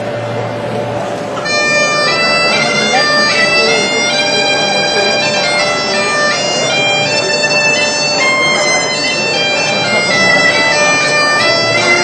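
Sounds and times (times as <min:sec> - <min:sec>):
bagpipe melody over drone: 0:01.4 - 0:12.0.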